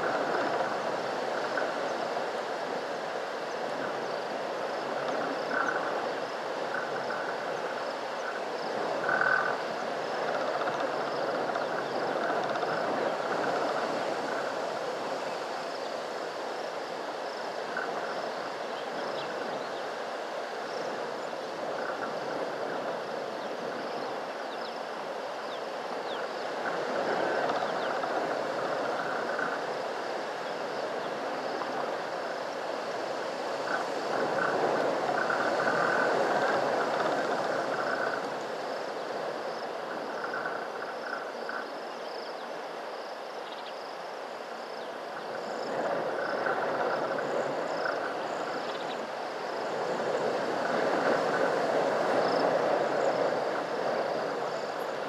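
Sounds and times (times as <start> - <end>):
frogs chorus: 0.0 - 55.0.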